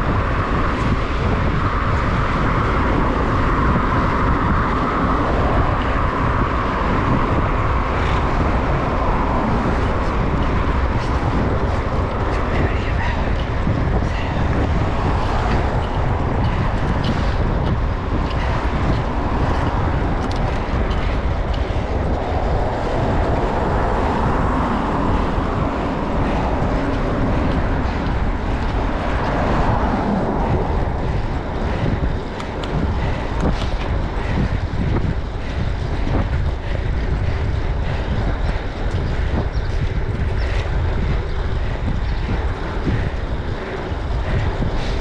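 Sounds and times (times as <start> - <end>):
low rumble: 0.0 - 45.0
wind buffeting microphone: 0.0 - 45.0.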